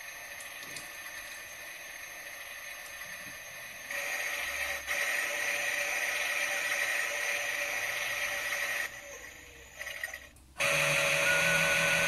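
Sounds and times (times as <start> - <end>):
toy washing machine running: 0.0 - 12.0.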